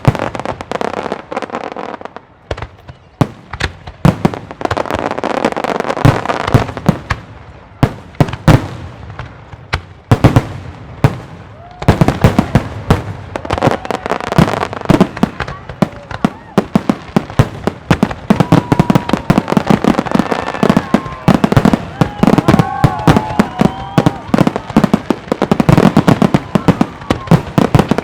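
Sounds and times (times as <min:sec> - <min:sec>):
fireworks bursting with bangs: 0:00.0 - 0:28.0
fireworks crackle: 0:00.0 - 0:28.0.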